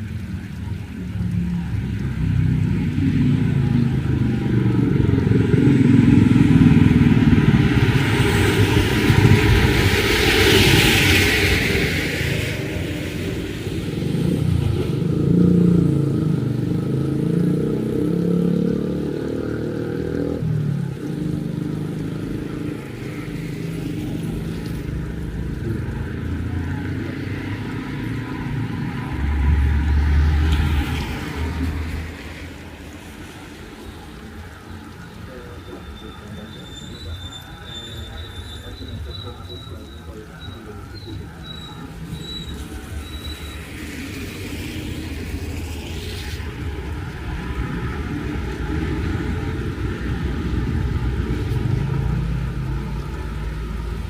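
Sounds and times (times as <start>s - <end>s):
vehicle engines passing close: 0.0s - 54.0s.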